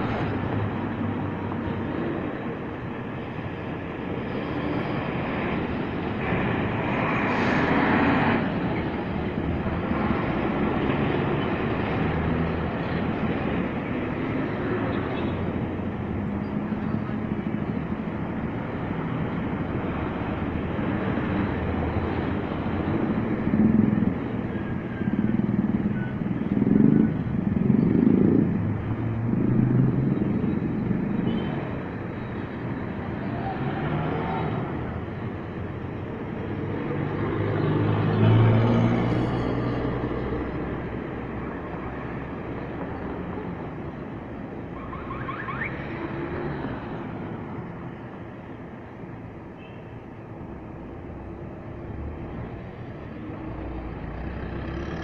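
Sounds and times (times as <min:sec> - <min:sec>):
traffic driving past: 0:00.0 - 0:55.0.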